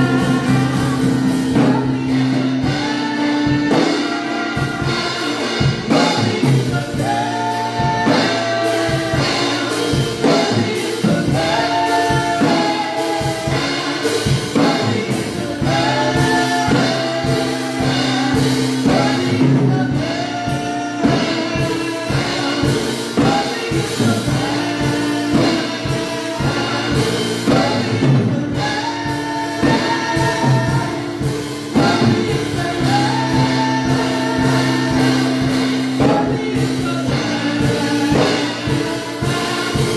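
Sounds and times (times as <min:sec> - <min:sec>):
people singing gospel: 0:00.0 - 0:39.9
steady drum beat: 0:00.0 - 0:39.9
sustained keyboard chords: 0:00.0 - 0:39.9.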